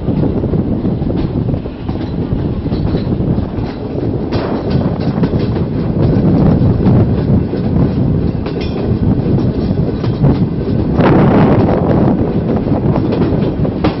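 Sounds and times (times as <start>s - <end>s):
train rumble: 0.0s - 14.0s
wheels clacking over rail joints: 0.0s - 14.0s.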